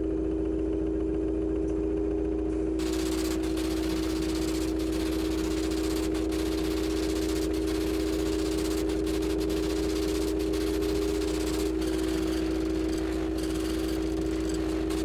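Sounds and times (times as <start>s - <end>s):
low electronic hum: 0.0s - 15.0s
static hiss: 2.8s - 15.0s.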